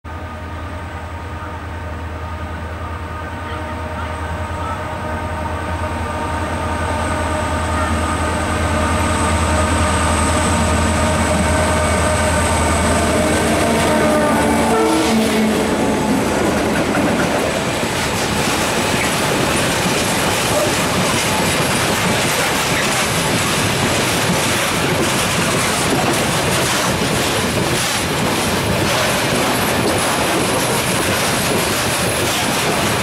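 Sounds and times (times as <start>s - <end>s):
locomotive engine drone: 0.1s - 33.0s.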